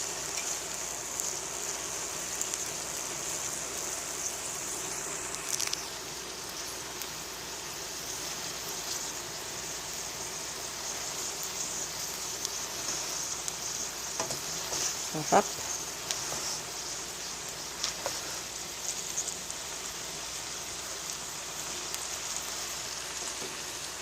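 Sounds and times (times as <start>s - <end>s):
meat and vegetables sizzling in pan: 0.0s - 24.0s.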